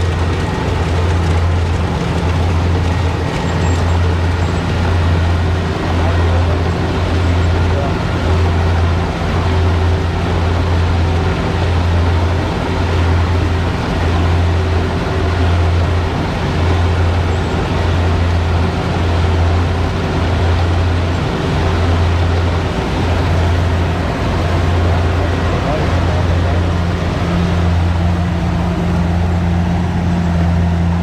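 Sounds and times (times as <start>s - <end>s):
combine harvester diesel engine droning: 0.0s - 31.0s.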